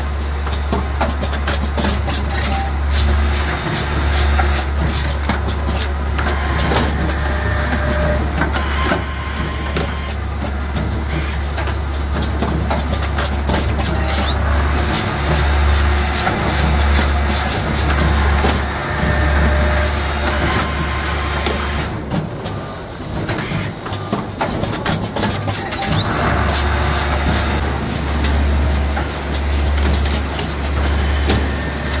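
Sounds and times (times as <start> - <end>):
pneumatic cylinders clacking: 0.4 - 32.0.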